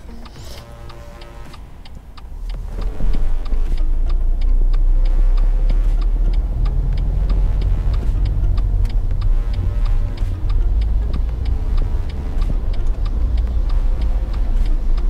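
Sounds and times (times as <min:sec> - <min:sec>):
car engine rumble: 0:00.0 - 0:15.0
turn signal ticking: 0:00.0 - 0:15.0.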